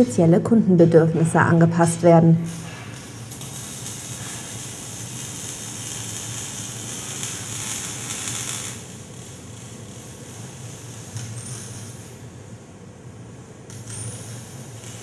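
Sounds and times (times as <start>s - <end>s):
arc welder crackling and hissing: 2.3s - 15.0s.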